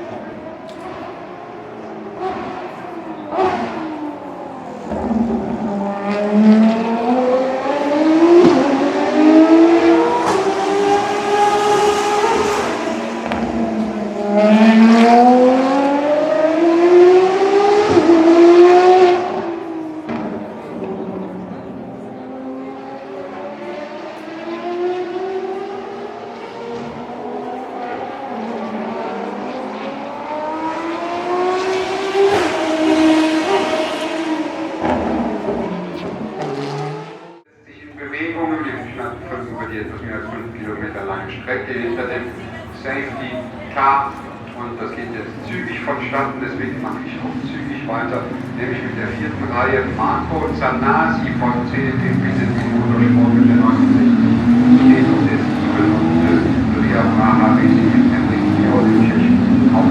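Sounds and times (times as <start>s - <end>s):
race car engines at high revs: 0.0s - 59.9s.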